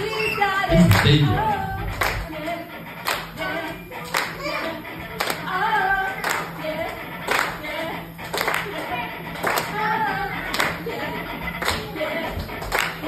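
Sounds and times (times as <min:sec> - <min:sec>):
people singing: 0:00.0 - 0:13.0
clapping on the beat: 0:00.8 - 0:09.8, 0:10.4 - 0:13.0.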